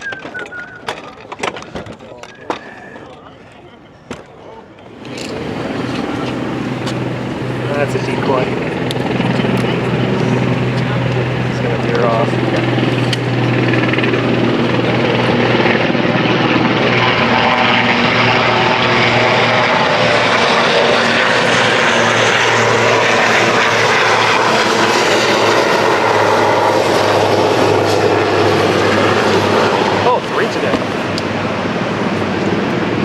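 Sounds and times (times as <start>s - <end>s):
helicopter flying overhead: 4.9s - 33.0s.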